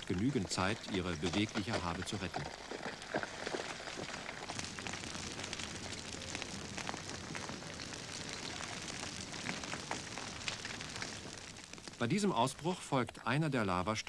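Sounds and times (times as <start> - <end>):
burning vegetation crackling: 0.0 - 14.0.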